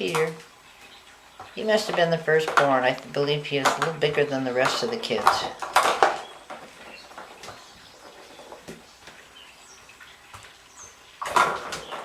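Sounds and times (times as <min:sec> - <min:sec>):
kittens clicking and scuffing: 0:00.0 - 0:12.0.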